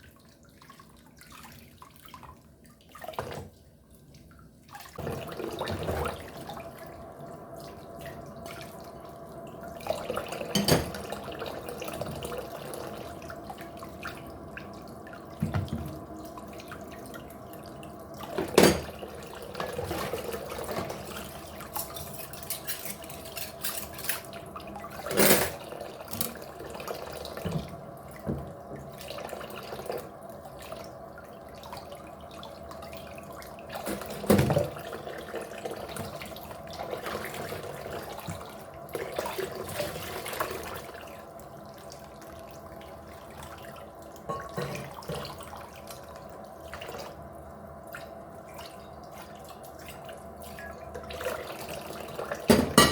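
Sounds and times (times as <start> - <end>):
water running at a sink: 0.0 - 52.9.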